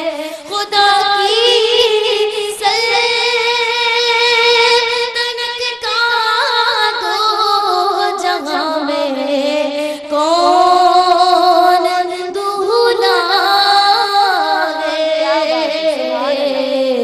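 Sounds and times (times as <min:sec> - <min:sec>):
woman singing into a microphone: 0:00.0 - 0:17.0.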